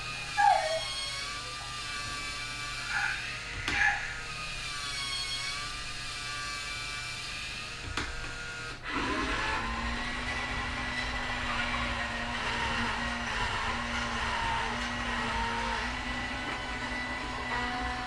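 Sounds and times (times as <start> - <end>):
toy motors whirring: 0.0 - 18.0.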